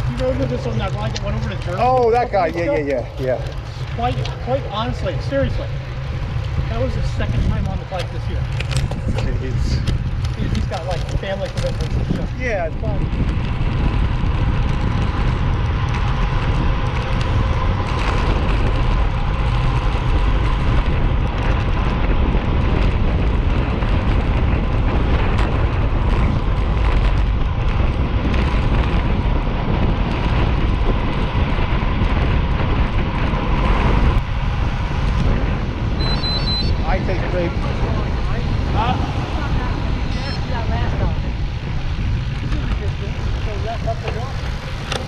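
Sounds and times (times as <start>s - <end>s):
road and tyre rumble: 0.0s - 45.0s
wind noise on microphone: 0.0s - 45.0s.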